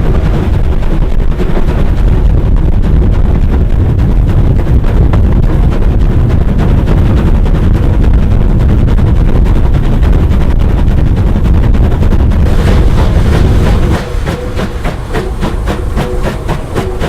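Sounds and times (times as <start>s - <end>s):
steam locomotive exhaust beats: 0.0s - 17.0s
wind buffeting microphone: 0.0s - 17.0s.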